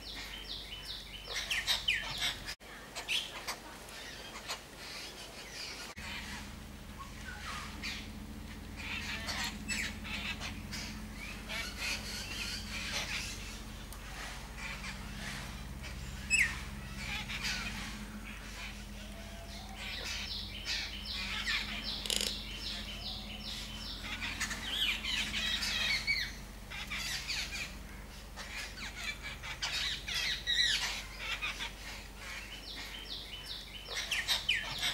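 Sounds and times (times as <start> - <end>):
birds squawking and chattering: 0.0 - 34.9
fast runs of repeated bird notes: 6.0 - 34.9.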